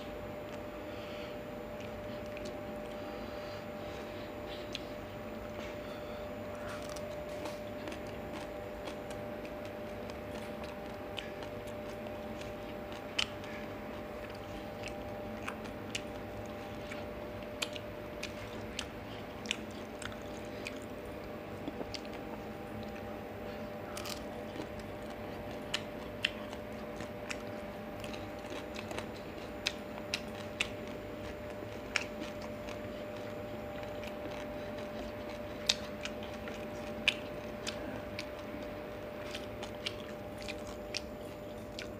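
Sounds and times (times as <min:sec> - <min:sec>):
steady low hum: 0:00.0 - 0:41.9
chewing clicks and smacks: 0:01.7 - 0:03.1, 0:06.5 - 0:41.9.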